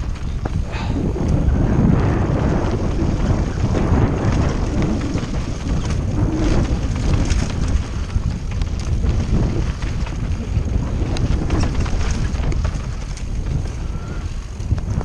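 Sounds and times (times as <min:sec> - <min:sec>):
bike rattles and knocks: 0:00.0 - 0:15.0
wind buffeting microphone: 0:00.0 - 0:15.0.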